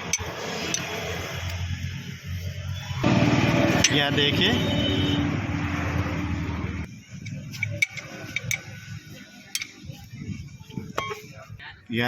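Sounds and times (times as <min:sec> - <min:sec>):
loud steady noise: 0:00.0 - 0:09.8.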